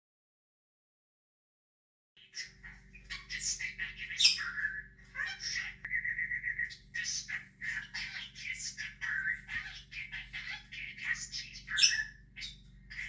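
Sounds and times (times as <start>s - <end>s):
budgerigar chirping and warbling: 2.2s - 13.0s.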